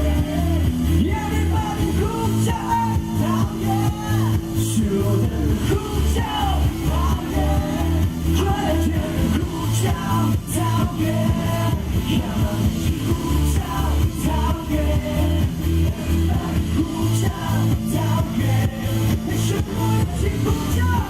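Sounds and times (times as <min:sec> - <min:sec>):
live pop-rock band: 0:00.0 - 0:21.0
person singing: 0:00.0 - 0:21.0.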